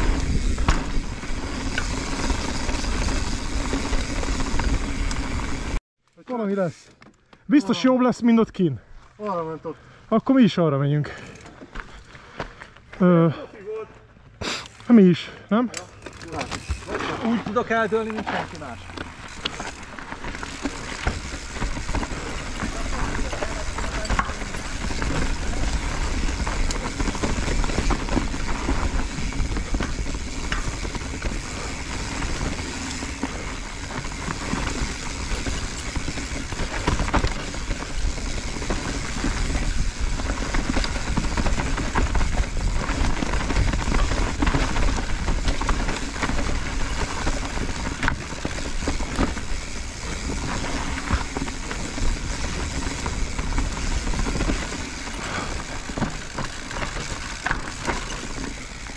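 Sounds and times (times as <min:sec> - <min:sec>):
bike clattering over bumps: 0:00.0 - 0:05.8, 0:15.9 - 0:58.9
bike tyres rolling over dirt: 0:00.0 - 0:06.3, 0:15.8 - 0:58.9.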